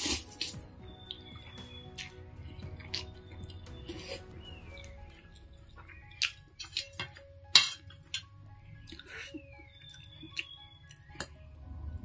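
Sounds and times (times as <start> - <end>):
chewing and wet mouth sounds: 0.0 - 7.2, 8.8 - 11.3.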